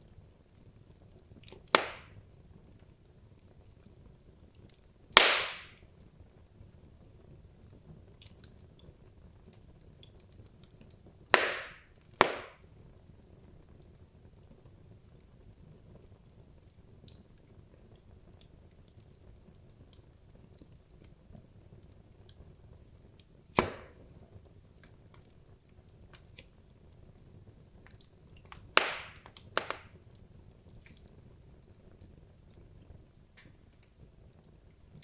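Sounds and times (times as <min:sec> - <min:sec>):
fire crackling and popping: 0:00.0 - 0:35.0
wood fire burning: 0:00.0 - 0:35.0.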